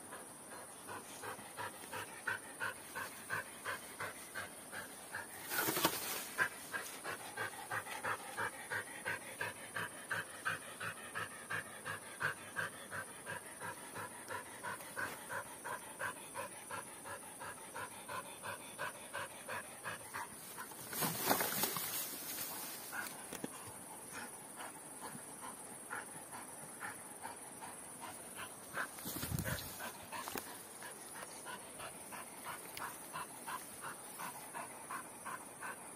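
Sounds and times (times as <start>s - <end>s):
dog panting: 0.0s - 20.8s, 22.8s - 35.9s.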